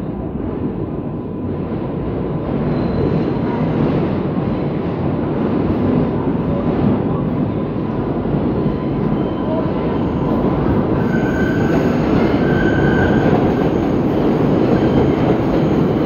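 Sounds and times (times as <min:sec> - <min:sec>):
subway train rumble in tunnel: 0:00.0 - 0:16.0.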